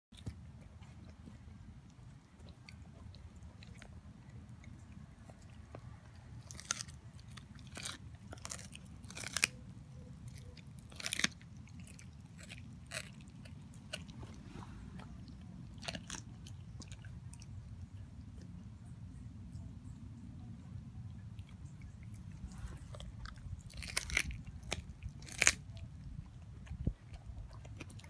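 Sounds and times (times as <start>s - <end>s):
dog gnawing bone: 0.1s - 18.6s, 21.0s - 28.0s.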